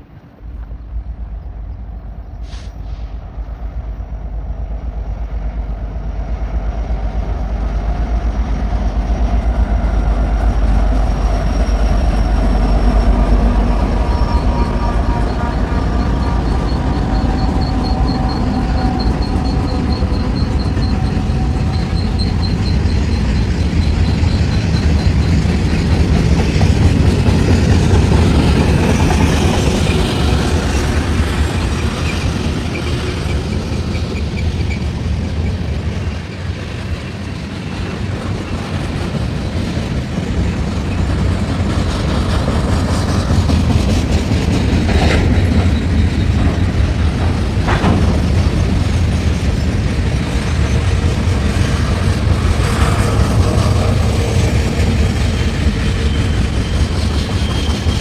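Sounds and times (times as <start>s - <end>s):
freight train rumbling past: 0.0s - 58.0s
high wheel squeal: 7.5s - 58.0s.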